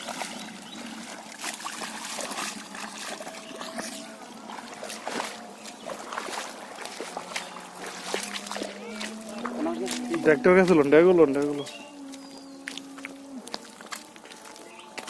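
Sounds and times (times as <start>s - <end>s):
feet wading through mud: 0.0s - 15.0s
water dripping from net: 0.0s - 15.0s.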